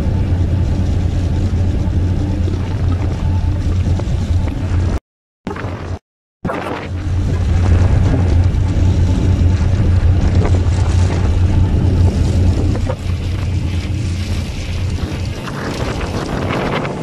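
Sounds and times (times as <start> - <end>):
sea rushing: 0.0 - 17.0
ship engine drone: 0.0 - 17.0
wind: 0.0 - 17.0.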